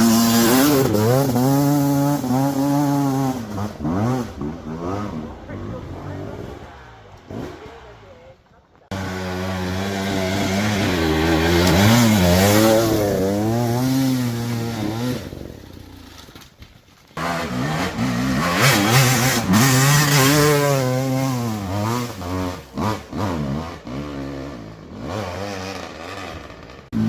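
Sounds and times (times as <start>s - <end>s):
dirt bike engine revving: 0.0s - 16.4s, 17.2s - 27.0s.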